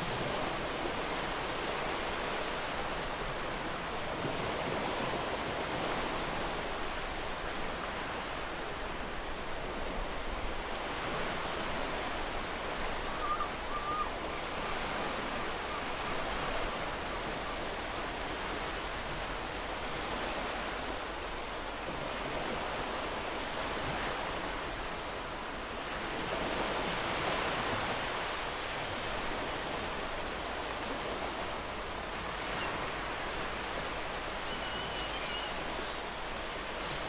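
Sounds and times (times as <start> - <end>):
ocean surf breaking on shore: 0.0 - 37.0.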